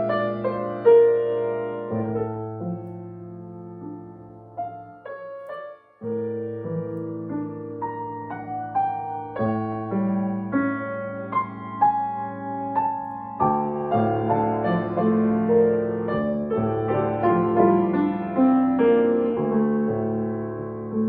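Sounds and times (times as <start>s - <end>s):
solo piano romantic piece: 0.0s - 21.0s.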